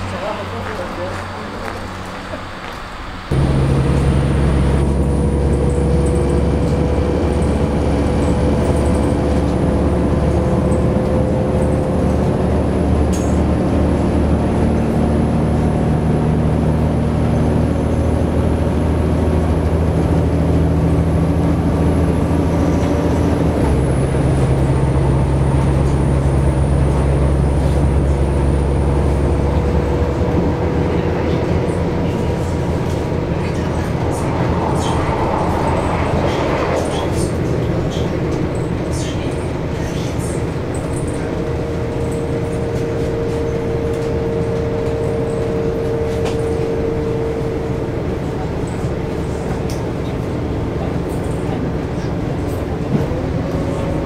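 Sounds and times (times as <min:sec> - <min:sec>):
train rumble and hum: 0:00.0 - 0:54.0.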